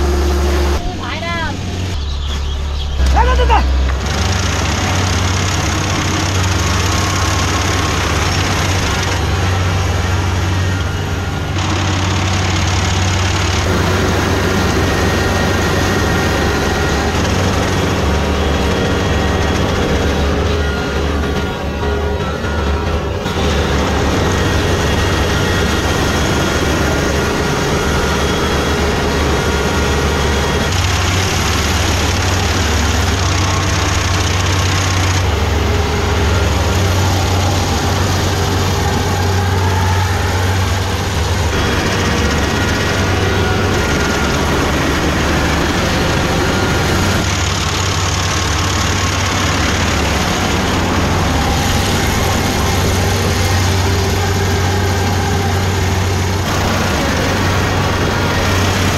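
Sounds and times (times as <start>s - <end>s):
heavy engine humming: 0.0s - 58.9s.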